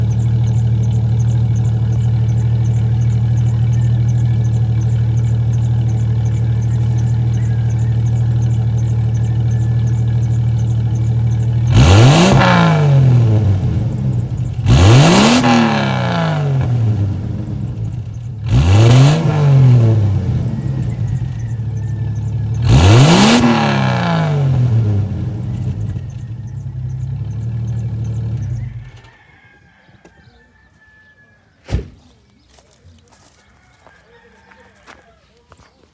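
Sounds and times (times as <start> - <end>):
car engine idling and revving: 0.0 - 29.2.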